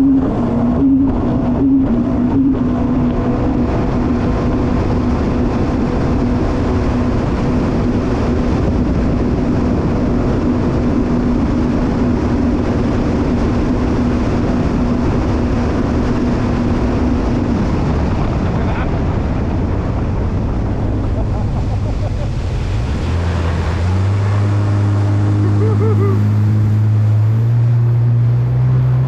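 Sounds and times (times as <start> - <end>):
jet ski engine running: 0.0 - 29.0
steady rush of noise: 0.0 - 29.0.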